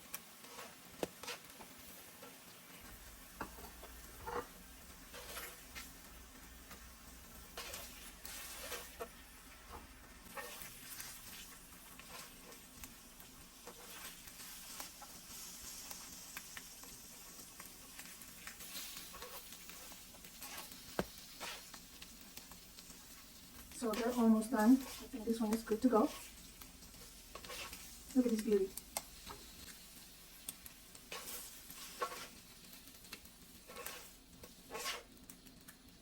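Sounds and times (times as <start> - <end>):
food sizzling on griddle: 0.0 - 36.0.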